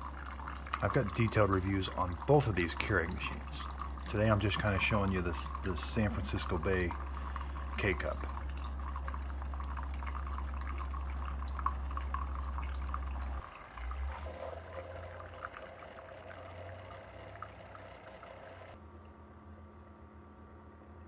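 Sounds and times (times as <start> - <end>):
coffee trickling into glass mugs: 0.0 - 18.8
coffee maker pump hum: 0.0 - 20.0.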